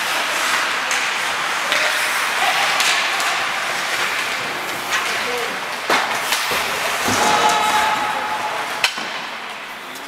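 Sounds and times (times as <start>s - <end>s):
hockey sticks and puck clacking: 0.0s - 10.0s.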